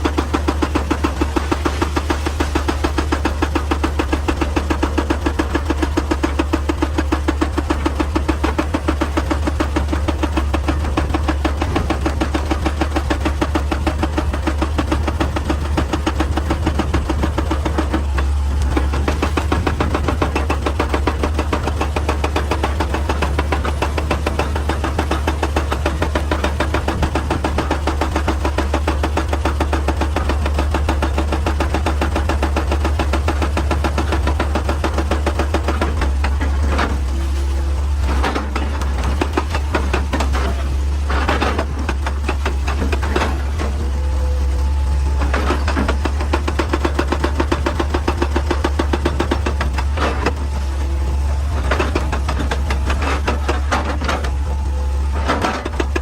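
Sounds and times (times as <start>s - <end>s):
deep rhythmic pulsing hum: 0.0s - 56.0s
excavator diesel engine running: 0.0s - 56.0s.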